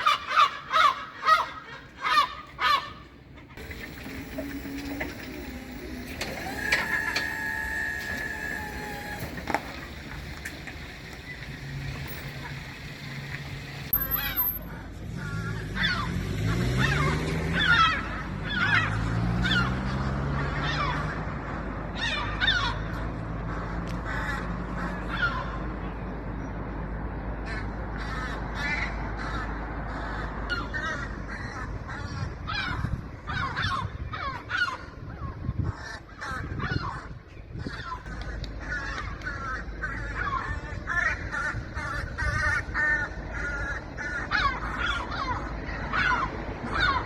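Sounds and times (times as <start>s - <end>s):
gulls calling: 0.0s - 26.0s, 27.4s - 47.0s.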